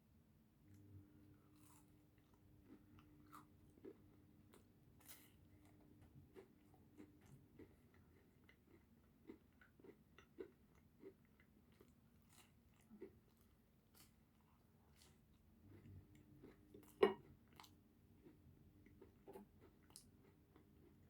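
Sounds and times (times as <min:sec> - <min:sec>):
faint chewing: 0:00.6 - 0:21.0.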